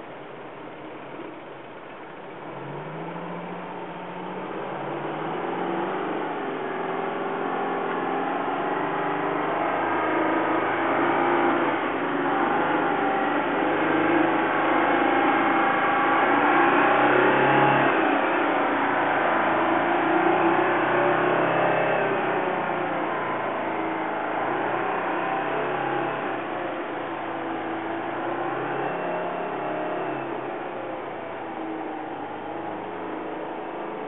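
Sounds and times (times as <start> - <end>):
truck diesel engine approaching: 0.1 - 34.0.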